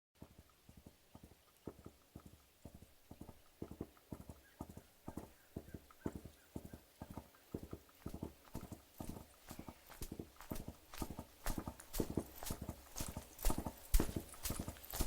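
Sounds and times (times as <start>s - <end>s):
horse hooves galloping: 0.2s - 15.0s.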